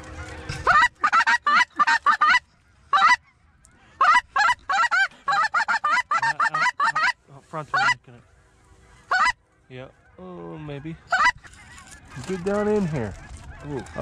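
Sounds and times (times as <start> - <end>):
goose call honks and clucks: 0.0 - 14.0.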